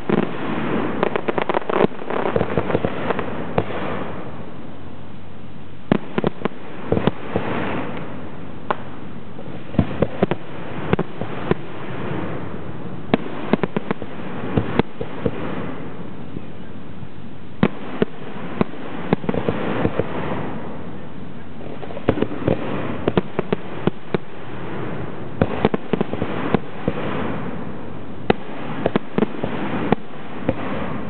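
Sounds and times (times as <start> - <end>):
firework shells bursting: 0.0 - 4.4, 5.9 - 16.0, 17.6 - 20.9, 21.6 - 31.0
fireworks crackle: 0.0 - 31.0.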